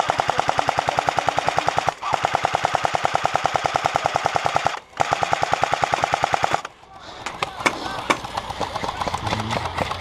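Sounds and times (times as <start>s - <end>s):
airsoft machine gun firing bursts: 0.0s - 6.7s, 7.5s - 10.0s.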